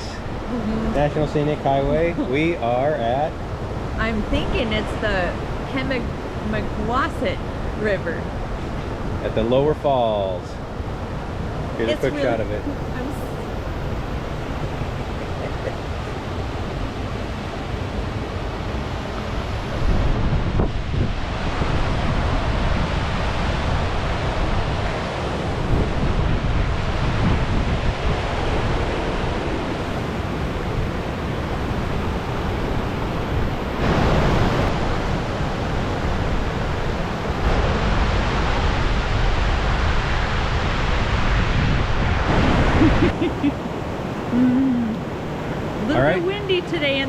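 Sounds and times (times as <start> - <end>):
waterfall rushing: 0.0 - 27.3, 28.0 - 47.0
wind buffeting microphone: 0.0 - 47.0.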